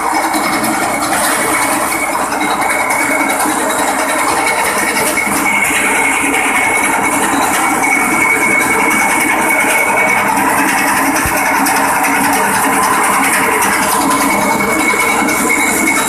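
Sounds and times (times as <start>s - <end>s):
grass chopper engine running: 0.0s - 16.0s
thin high whine: 0.1s - 16.0s.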